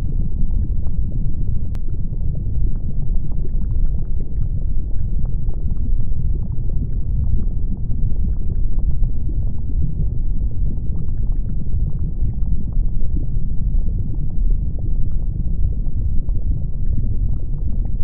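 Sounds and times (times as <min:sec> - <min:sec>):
deep volcanic rumble: 0:00.0 - 0:18.0
lava crackling and popping: 0:00.0 - 0:18.0.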